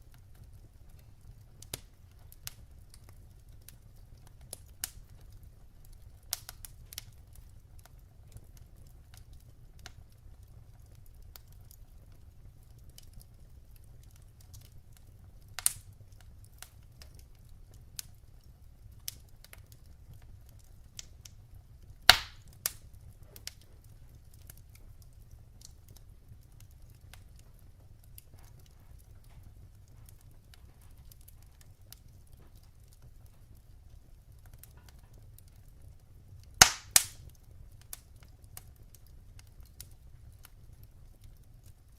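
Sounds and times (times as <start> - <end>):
low rumble of burning: 0.0 - 41.9
wood fire pops and snaps: 0.0 - 41.9.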